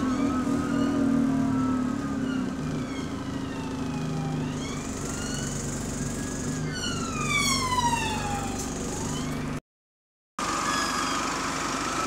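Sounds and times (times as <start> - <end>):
bus drivetrain whine: 0.0 - 9.6, 10.4 - 12.0
bus engine hum: 0.0 - 9.6, 10.4 - 12.0.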